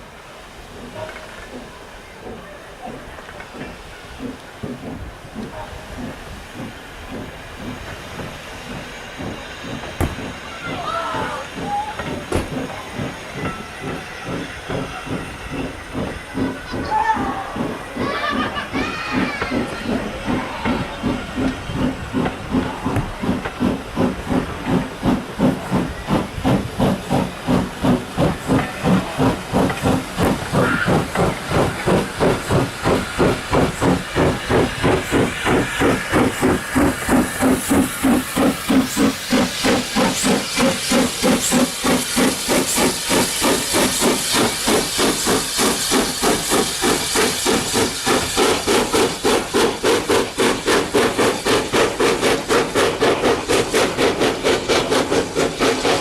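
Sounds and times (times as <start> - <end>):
hiss of steam: 0.0 - 56.0
steam locomotive exhaust beats: 0.0 - 56.0.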